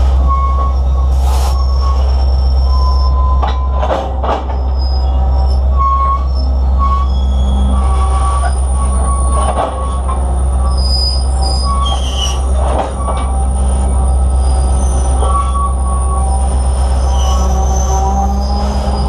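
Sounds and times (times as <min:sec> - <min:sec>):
wheels rumbling on rail: 0:00.0 - 0:19.0
wheel squeals: 0:00.2 - 0:19.0.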